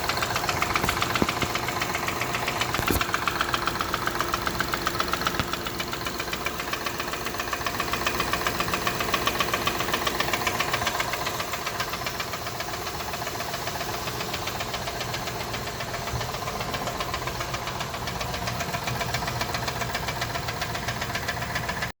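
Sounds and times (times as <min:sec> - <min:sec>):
car engine running: 0:00.0 - 0:21.9
fast engine knock: 0:00.0 - 0:21.9.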